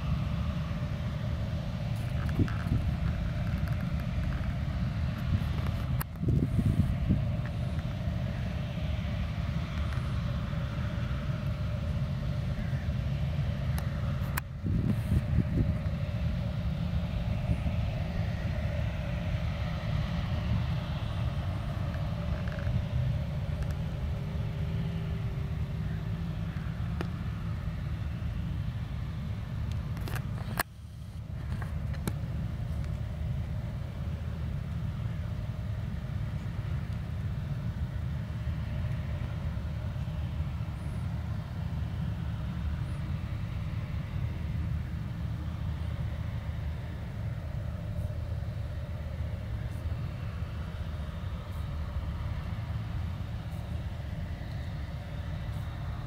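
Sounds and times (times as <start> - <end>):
combine harvester rumbling: 0.0 - 56.0.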